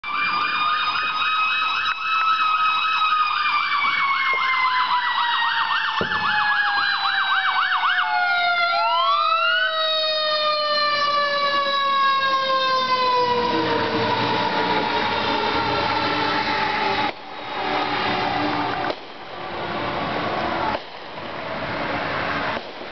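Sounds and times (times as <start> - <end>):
electronic siren yelping: 0.0 - 18.7
mechanical siren wailing: 0.0 - 18.9.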